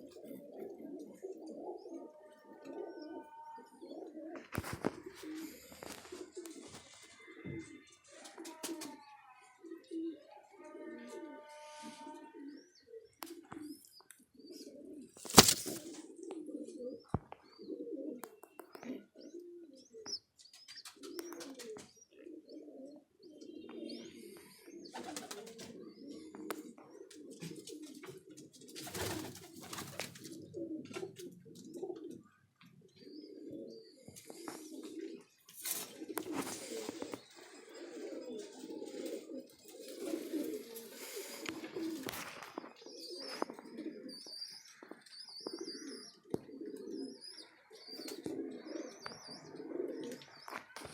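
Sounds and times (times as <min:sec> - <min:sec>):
pigeons cooing: 0:00.0 - 0:50.9.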